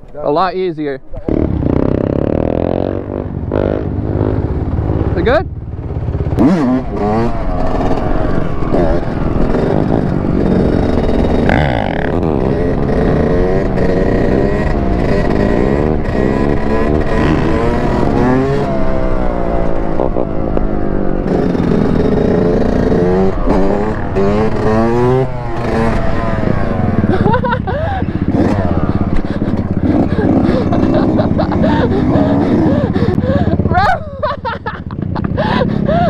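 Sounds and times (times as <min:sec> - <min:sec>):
dirt bike engine revving: 0:01.2 - 0:36.0.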